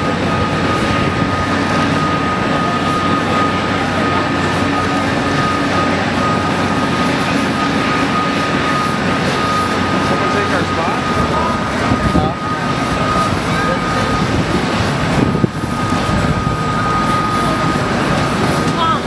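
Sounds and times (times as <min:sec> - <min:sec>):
high turbine-like whine: 0:00.0 - 0:19.0.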